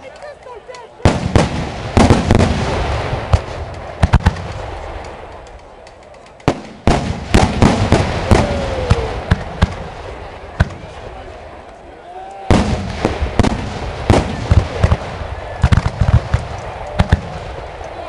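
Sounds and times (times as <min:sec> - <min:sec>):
firework crackling: 0:01.0 - 0:11.2, 0:12.4 - 0:18.0.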